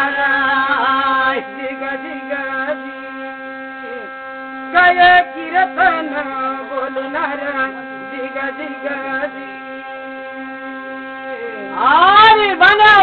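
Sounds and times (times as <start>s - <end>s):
man chanting: 0.0s - 9.9s, 11.2s - 13.0s
humming drone of rubbed brass plate: 0.0s - 13.0s.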